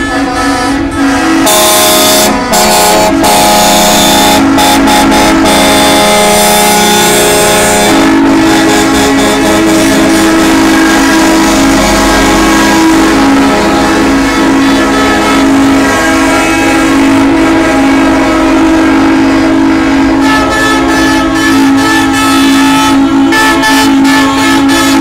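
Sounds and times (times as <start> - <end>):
truck air horns: 0.0 - 25.0.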